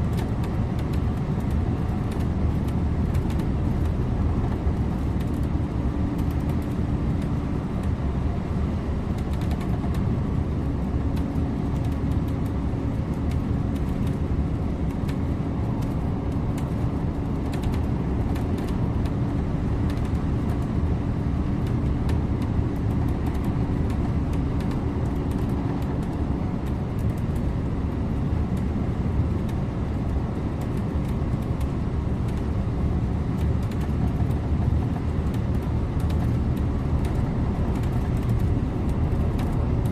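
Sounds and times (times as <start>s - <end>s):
bus engine and road noise: 0.0s - 39.9s.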